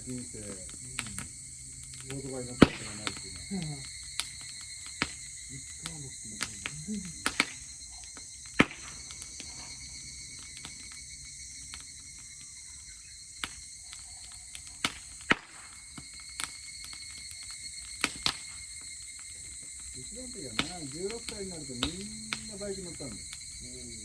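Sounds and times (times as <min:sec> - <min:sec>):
campfire crackling: 0:00.0 - 0:24.0
insects chorus: 0:00.0 - 0:24.0.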